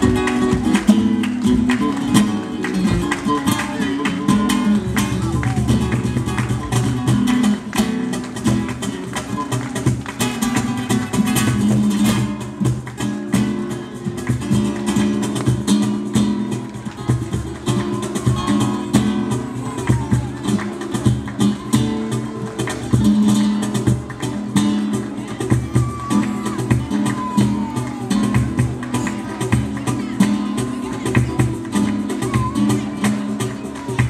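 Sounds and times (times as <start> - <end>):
flamenco guitars playing: 0.0 - 34.0.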